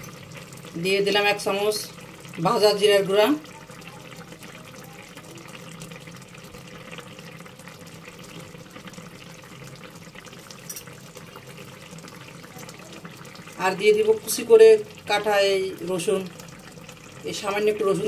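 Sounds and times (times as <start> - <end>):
curry bubbling in a pot: 0.0 - 18.0.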